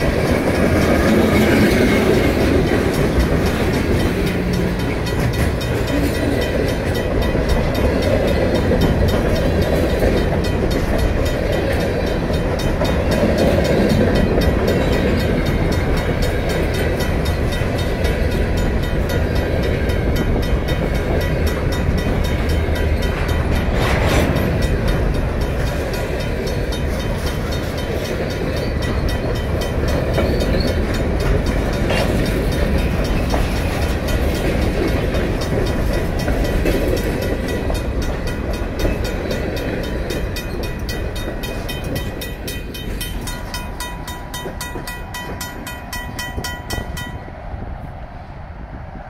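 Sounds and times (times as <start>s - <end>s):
crossing bell ringing: 0.0s - 47.6s
freight train rumbling past: 0.0s - 49.0s.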